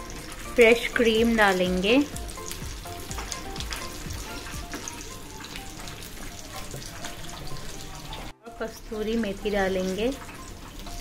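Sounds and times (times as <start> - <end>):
gravy sizzling with crackling pops: 0.0 - 11.0.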